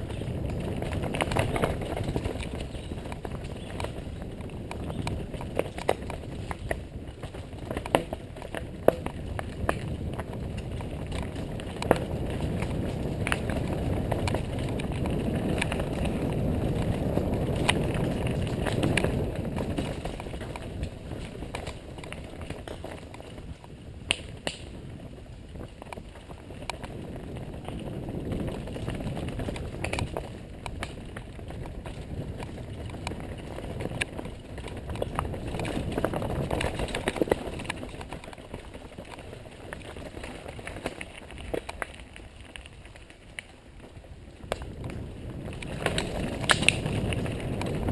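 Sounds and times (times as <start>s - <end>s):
bike clacking and rattling: 0.0s - 47.9s
bike tyres rumbling on dirt: 0.0s - 47.9s.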